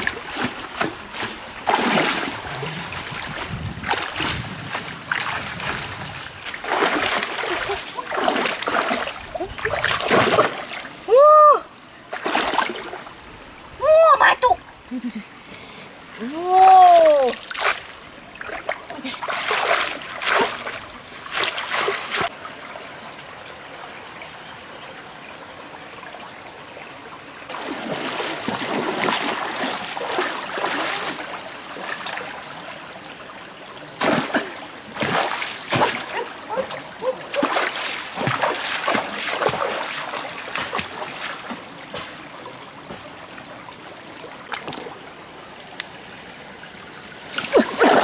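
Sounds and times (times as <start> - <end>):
irregular water splashing: 0.0 - 13.9, 14.5 - 22.4, 27.5 - 48.0
stream water rushing: 0.0 - 48.0.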